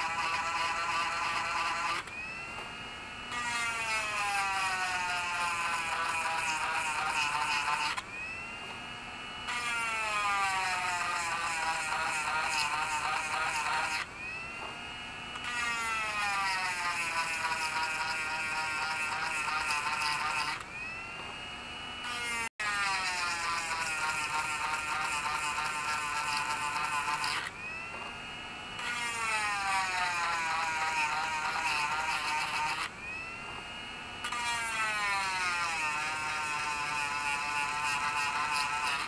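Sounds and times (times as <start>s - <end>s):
rotary tool whining: 0.0s - 39.0s.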